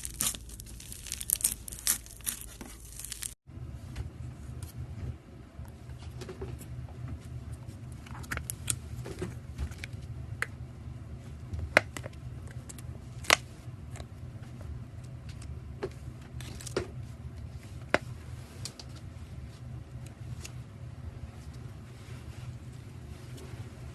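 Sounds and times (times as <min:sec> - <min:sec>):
low rumble: 0:00.0 - 0:23.9.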